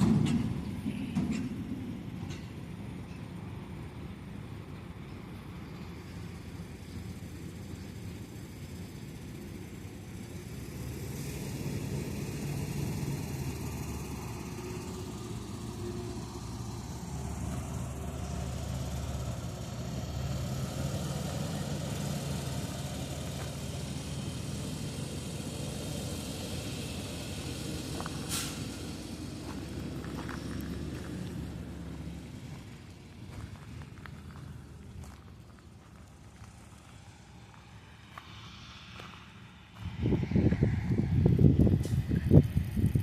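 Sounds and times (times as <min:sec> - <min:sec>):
harvester engine running: 0:00.0 - 0:43.0.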